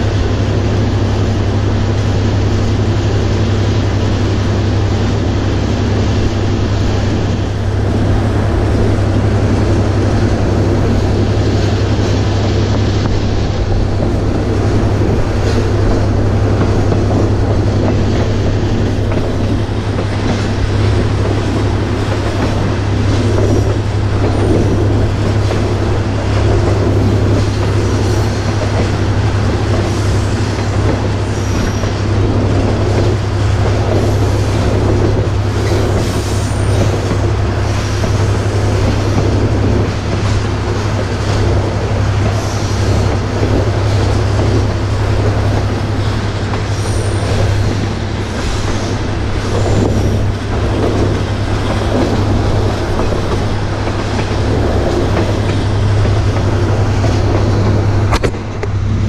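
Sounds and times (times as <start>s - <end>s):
train wheels rumbling and rattling: 0.0s - 59.0s.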